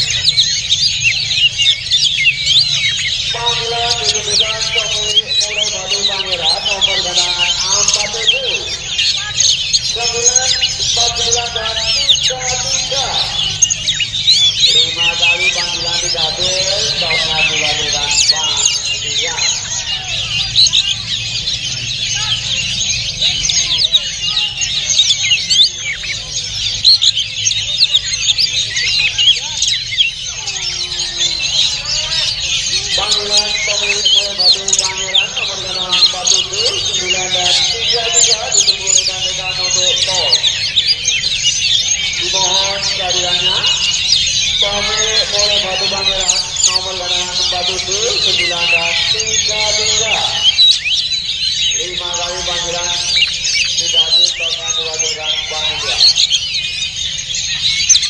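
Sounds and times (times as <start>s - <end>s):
songbirds chirping and whistling: 0.0s - 58.0s.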